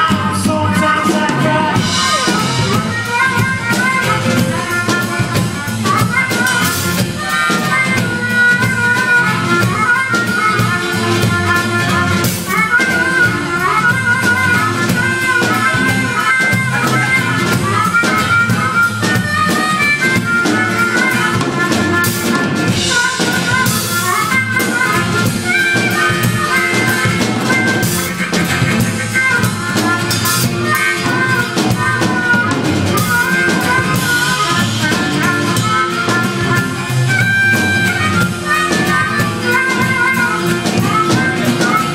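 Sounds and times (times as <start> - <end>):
live blues-jazz band: 0.0 - 41.9.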